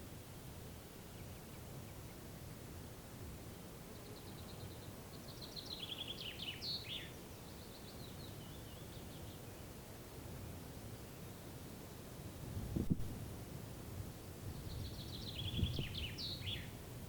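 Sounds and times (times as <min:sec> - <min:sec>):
songbird singing: 0:00.0 - 0:10.1, 0:10.8 - 0:12.1, 0:14.1 - 0:17.0
faint low background noise: 0:00.0 - 0:17.0.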